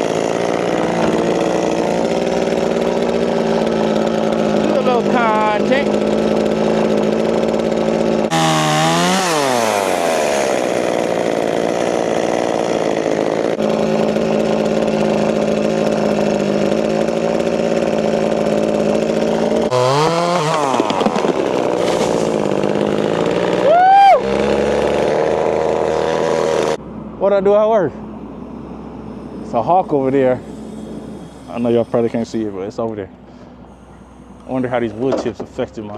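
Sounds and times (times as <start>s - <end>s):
chainsaw running at high revs: 0.0s - 26.8s, 28.0s - 35.9s.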